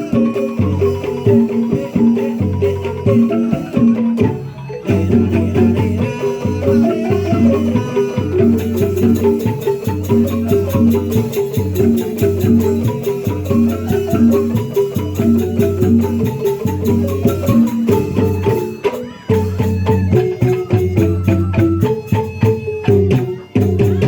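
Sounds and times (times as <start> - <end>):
drums and rattles: 0.0 - 24.0
gamelan music: 0.0 - 24.0.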